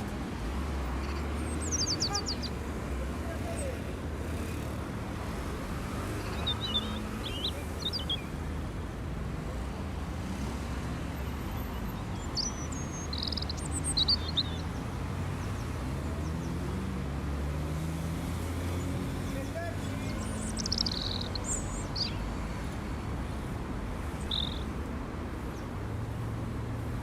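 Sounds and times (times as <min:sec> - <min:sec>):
small birds chirping: 0:00.0 - 0:08.5, 0:10.4 - 0:26.2.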